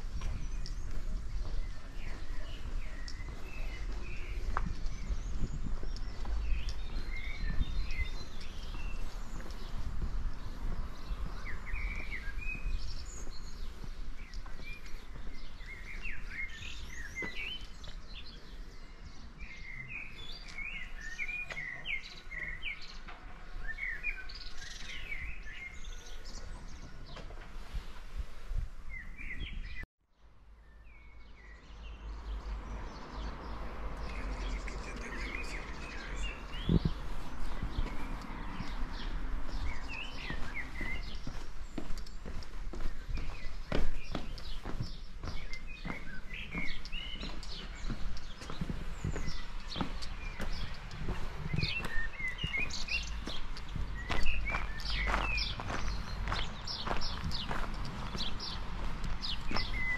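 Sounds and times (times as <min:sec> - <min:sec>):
songbirds chirping and singing: 0:00.0 - 0:28.3, 0:30.6 - 0:59.9
footsteps on pavement: 0:00.0 - 0:29.8, 0:32.3 - 0:59.9.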